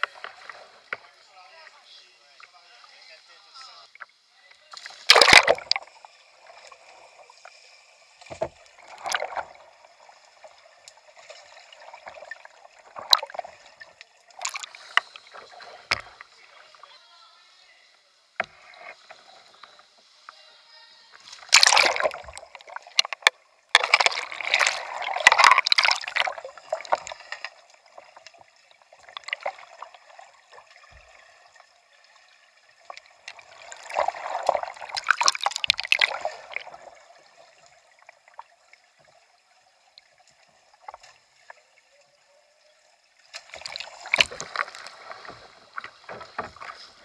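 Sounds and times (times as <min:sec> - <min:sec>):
rushing water: 0:00.0 - 0:47.0
water gurgling: 0:00.0 - 0:47.0.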